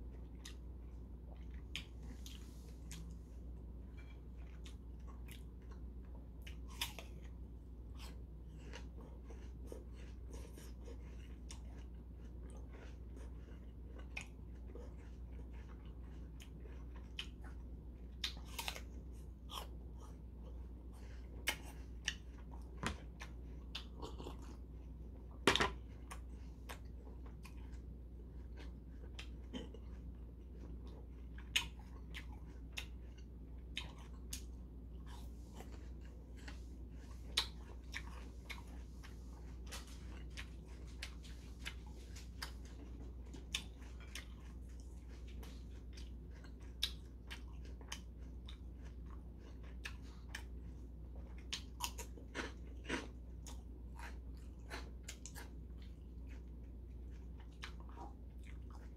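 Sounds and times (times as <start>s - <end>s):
man chewing crunchy food: 0.0s - 58.9s
steady low hum: 0.0s - 58.9s.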